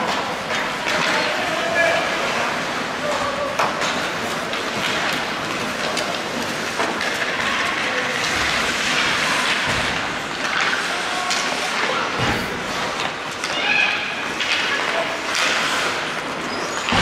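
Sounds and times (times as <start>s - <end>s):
hockey sticks and puck clacking: 0.0s - 17.0s
skates scraping on ice: 0.0s - 17.0s.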